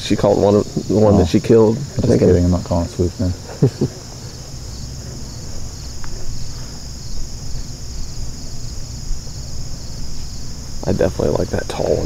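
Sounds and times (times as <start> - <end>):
crickets and insects chorus: 0.0 - 12.0.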